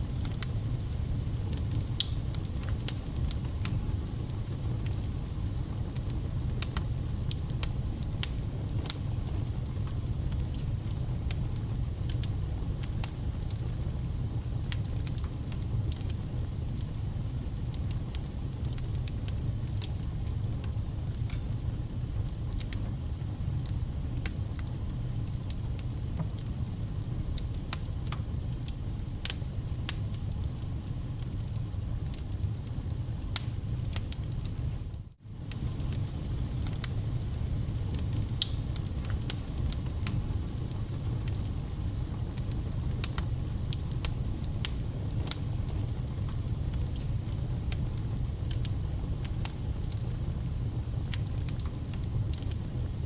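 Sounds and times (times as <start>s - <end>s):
wood fire burning: 0.0s - 53.0s.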